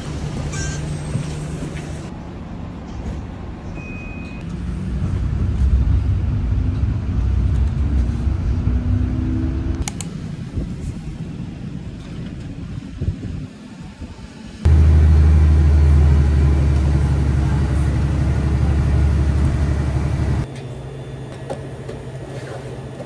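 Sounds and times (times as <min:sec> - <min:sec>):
road vehicle rumbling: 0:00.0 - 0:20.5.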